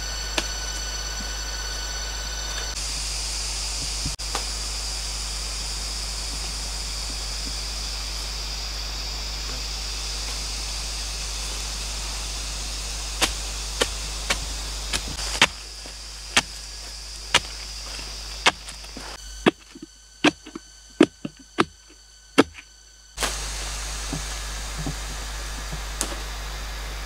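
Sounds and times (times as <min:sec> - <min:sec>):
forest insects droning: 0:00.0 - 0:27.0.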